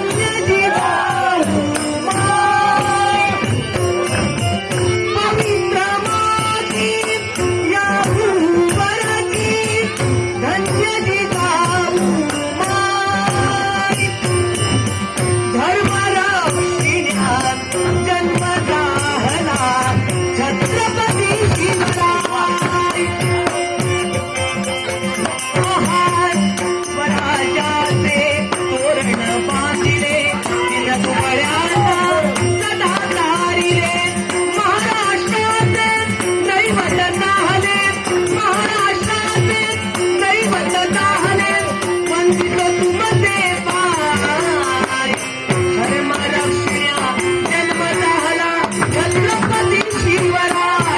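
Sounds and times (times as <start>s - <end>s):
rhythmic percussion: 0.0s - 50.9s.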